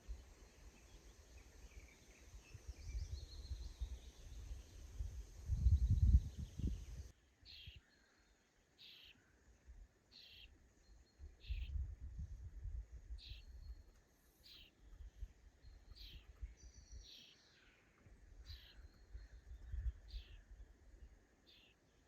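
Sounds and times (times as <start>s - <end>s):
songbird high call: 0.0s - 9.2s, 10.1s - 11.8s, 13.1s - 20.5s, 21.5s - 21.8s.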